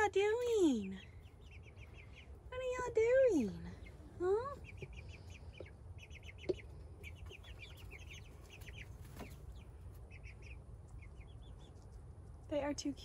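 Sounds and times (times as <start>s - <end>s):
chicks cheeping: 0.0s - 13.0s.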